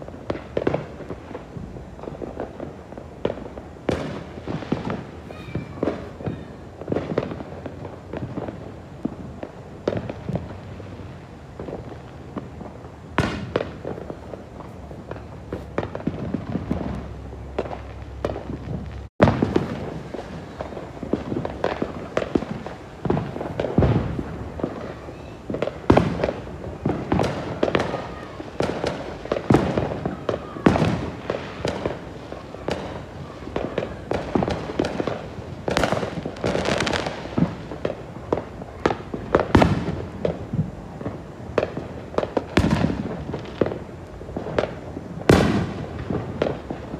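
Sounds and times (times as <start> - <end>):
fireworks bangs and pops: 0.0 - 46.9.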